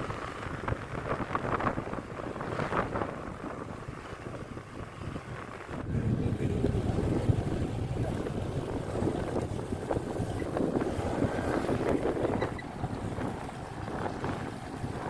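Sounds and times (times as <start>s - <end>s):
scooter engine and road noise: 0.0s - 15.0s
wind buffeting microphone: 0.0s - 15.0s.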